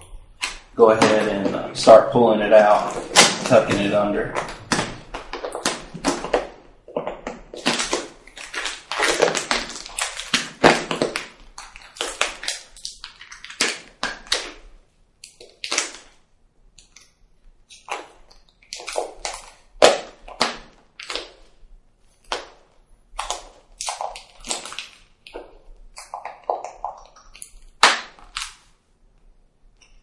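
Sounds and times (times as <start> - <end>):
vinyl film crinkling: 0.3 - 16.2, 16.8 - 28.8.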